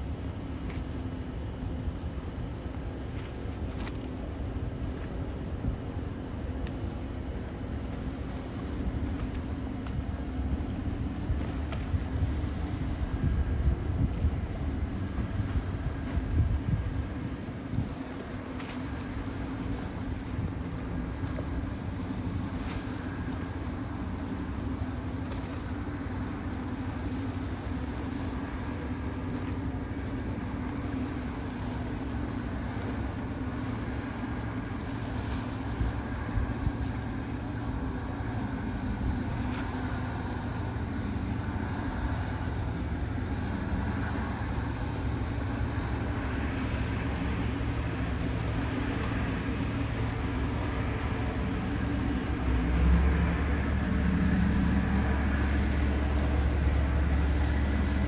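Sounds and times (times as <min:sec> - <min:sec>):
wind and water noise: 0:00.0 - 0:58.0
yacht engines humming: 0:00.0 - 0:58.0.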